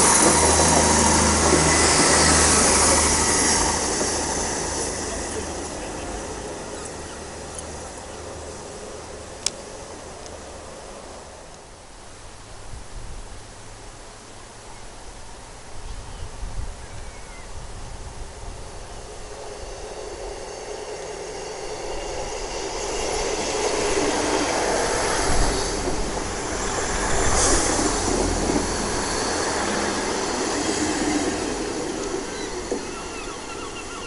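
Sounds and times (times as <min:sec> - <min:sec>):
diesel train engines: 0:00.0 - 0:11.7, 0:18.0 - 0:34.0.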